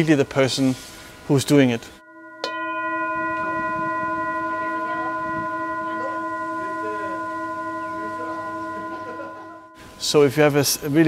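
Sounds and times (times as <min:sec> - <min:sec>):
singing bowl ringing: 0:01.9 - 0:11.0.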